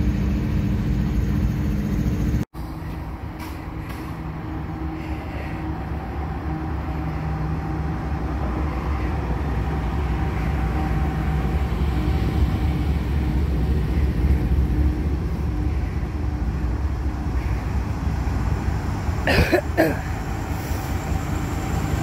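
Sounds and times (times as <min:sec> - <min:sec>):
diesel locomotive engines rumbling: 0:00.0 - 0:22.0.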